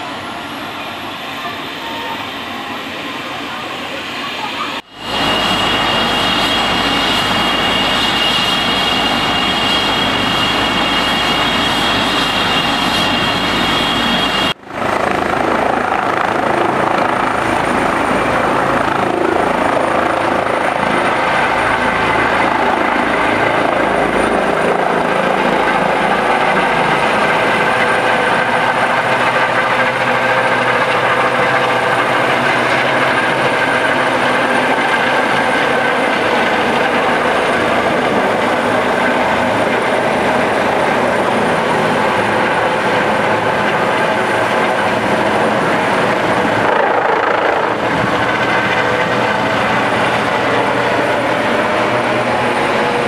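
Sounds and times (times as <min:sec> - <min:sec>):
helicopter rotor turning: 0:00.0 - 0:53.0
helicopter turbines whining: 0:00.0 - 0:53.0.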